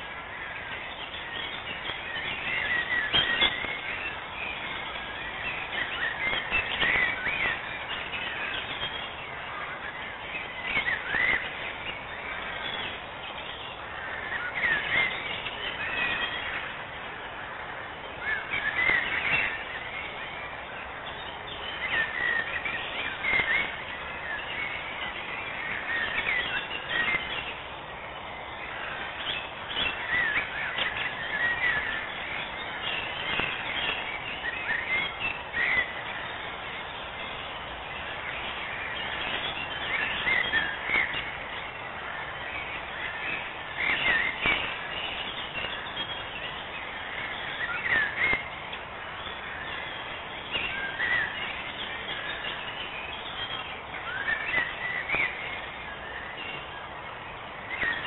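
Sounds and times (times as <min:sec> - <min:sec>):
bird chirps and trills: 0:00.0 - 0:58.0
steady hiss: 0:00.0 - 0:58.0.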